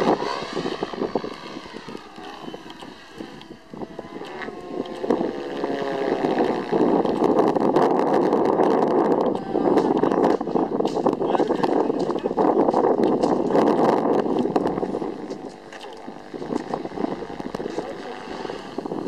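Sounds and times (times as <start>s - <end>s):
model helicopter rotor and motor: 0.0s - 19.0s.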